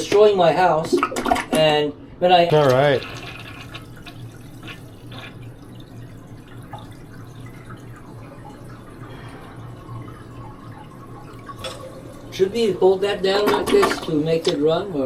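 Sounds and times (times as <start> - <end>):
toilet flushing: 0.0 - 15.0.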